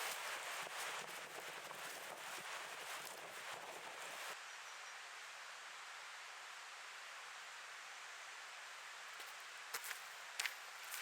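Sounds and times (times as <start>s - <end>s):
faint outdoor rushing hiss: 0.0s - 11.0s.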